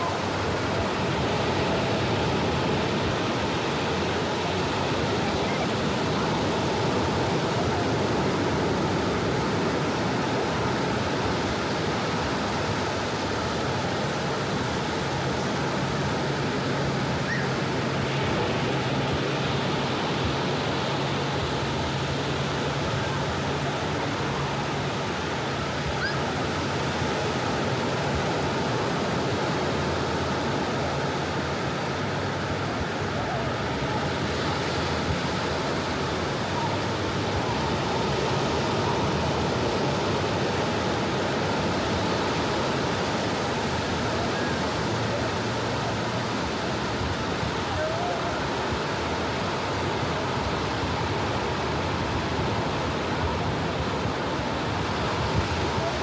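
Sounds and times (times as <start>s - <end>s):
soft ocean waves washing: 0.0s - 56.0s.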